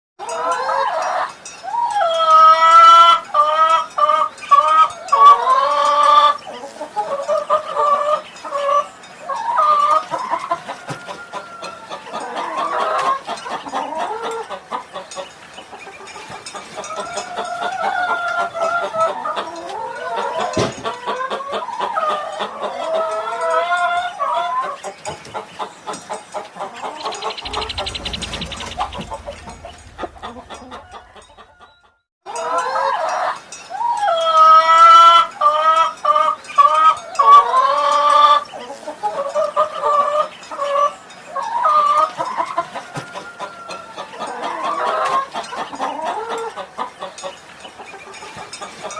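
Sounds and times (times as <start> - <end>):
chickens clucking: 0.2 - 48.9.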